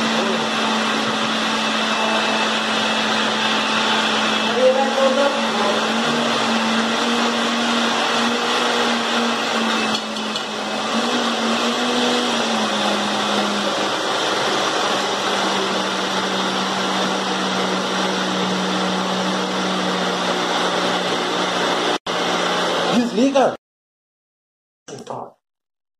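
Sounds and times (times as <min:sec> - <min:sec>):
blender running: 0:00.0 - 0:23.5.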